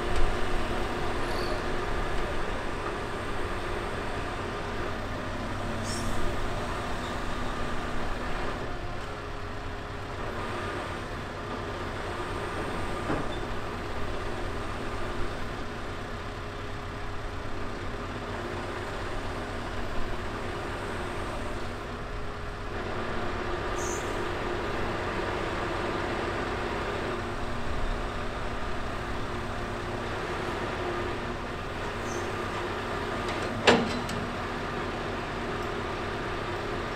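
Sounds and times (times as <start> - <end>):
diesel engine running steadily: 0.0 - 36.9.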